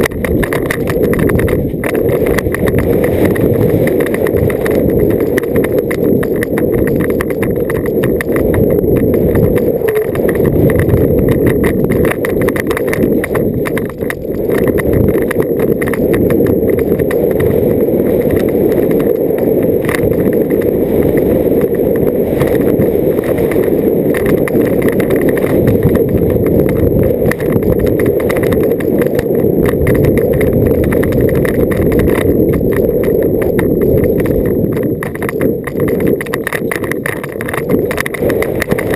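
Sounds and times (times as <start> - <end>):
bike rattling and clattering: 0.0 - 38.9
tyres and wind rumbling: 0.0 - 38.9.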